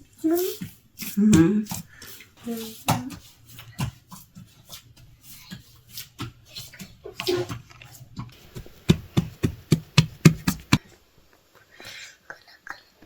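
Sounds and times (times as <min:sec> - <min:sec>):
hands patting bread dough: 0:00.3 - 0:10.9.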